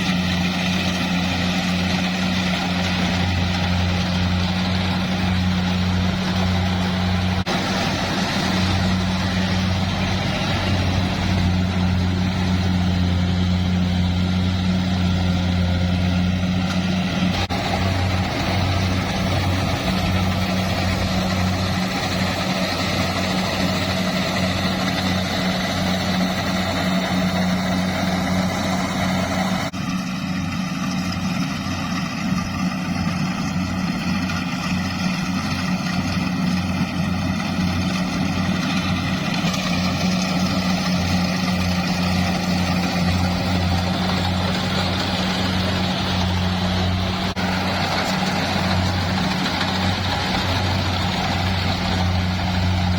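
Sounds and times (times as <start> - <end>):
farm machine engine running: 0.0 - 52.9.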